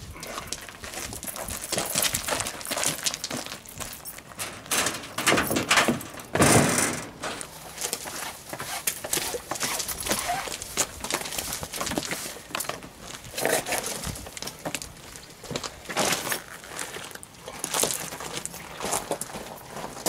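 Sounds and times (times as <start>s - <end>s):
scraping crunch on gravel: 0.0s - 4.4s, 7.1s - 20.0s
footsteps crunching on gravel: 0.0s - 4.6s, 7.1s - 20.0s.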